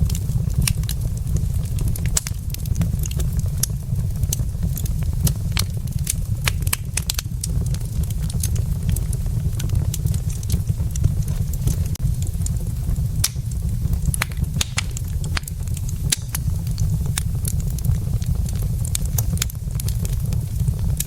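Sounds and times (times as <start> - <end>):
logs crackling in a fireplace: 0.0 - 21.0.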